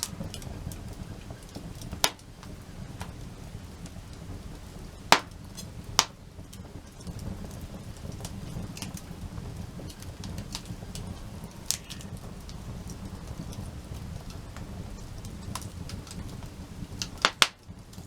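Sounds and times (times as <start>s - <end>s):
campfire crackling and popping: 0.0s - 18.0s
fire low rumble: 0.0s - 18.0s.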